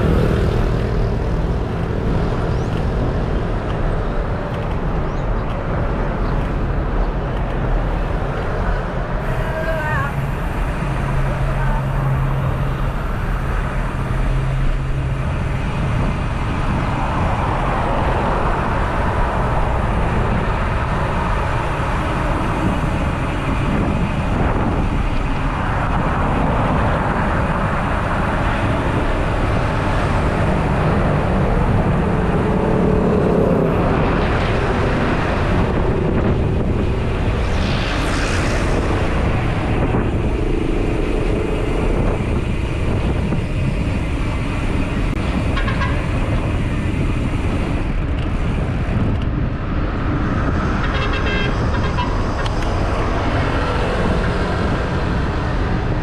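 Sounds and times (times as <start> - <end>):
road traffic noise: 0.0 - 56.0
vehicles passing: 0.0 - 56.0
wind rumble on microphone: 0.0 - 56.0.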